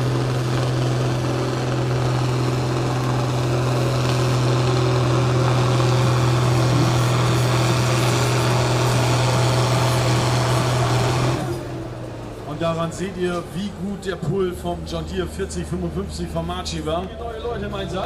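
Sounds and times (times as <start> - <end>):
diesel tractor engine under full load: 0.0 - 18.0.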